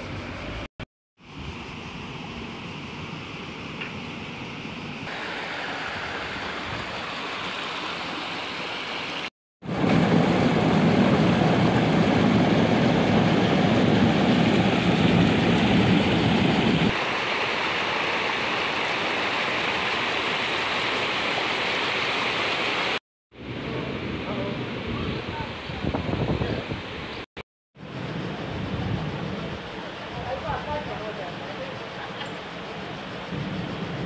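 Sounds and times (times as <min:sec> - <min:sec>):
water rushing from cascade: 0:05.1 - 0:33.3.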